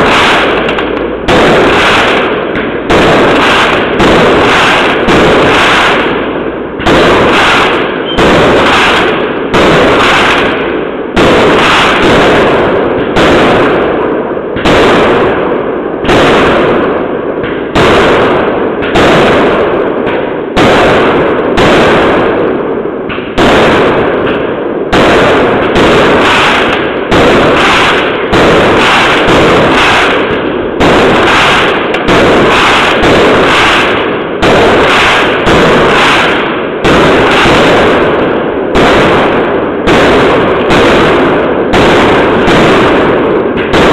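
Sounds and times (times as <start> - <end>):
fireworks banging: 0.0 - 43.9.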